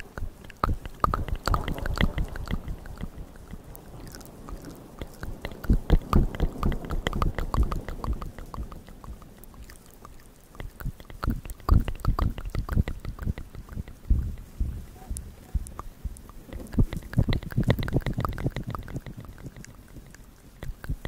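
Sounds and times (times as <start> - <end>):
wet mouth clicks and smacks: 0.0 - 21.0.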